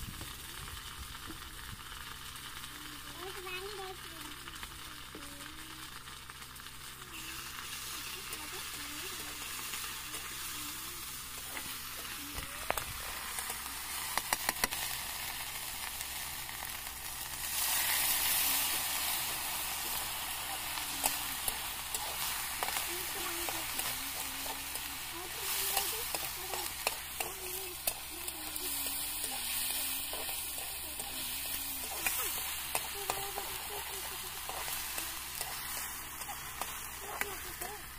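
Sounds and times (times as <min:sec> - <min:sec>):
meat sizzling in a pan: 0:00.0 - 0:37.9.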